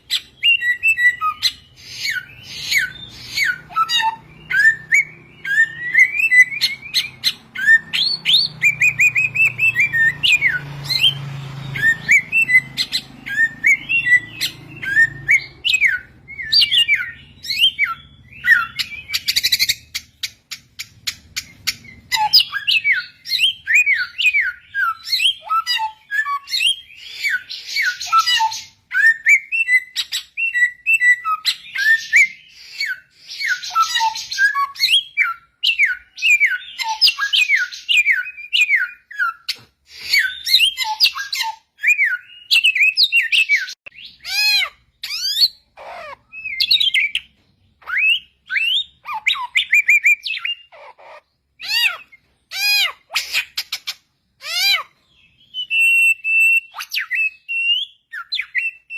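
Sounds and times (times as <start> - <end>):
bird singing: 0.0 - 58.9.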